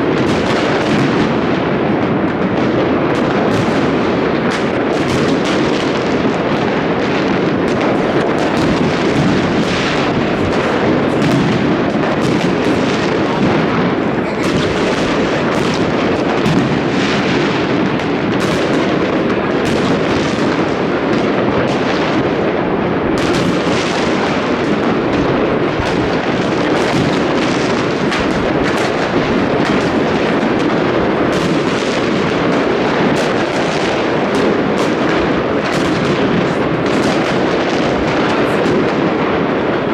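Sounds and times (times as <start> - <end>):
fireworks and firecrackers banging: 0.0 - 39.9.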